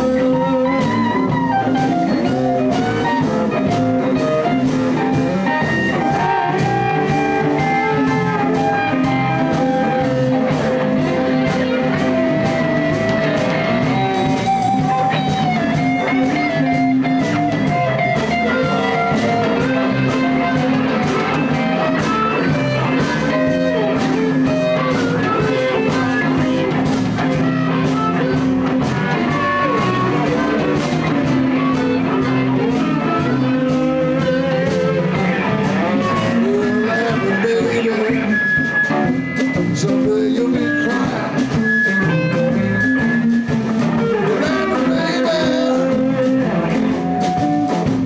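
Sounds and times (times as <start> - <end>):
harmonica-like held notes: 0.0 - 47.8
live blues band playing: 0.0 - 48.0.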